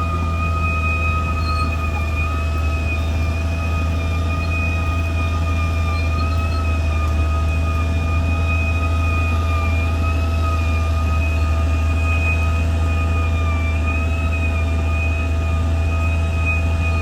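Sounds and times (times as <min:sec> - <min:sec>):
bulldozer diesel engine droning: 0:00.0 - 0:17.0
high wavering engine whine: 0:00.0 - 0:17.0.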